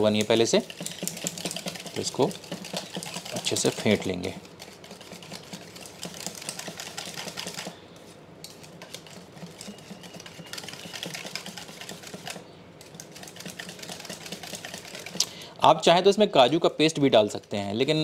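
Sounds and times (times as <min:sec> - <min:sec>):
whisk clicking in metal bowl: 0:00.0 - 0:07.8, 0:08.4 - 0:15.3.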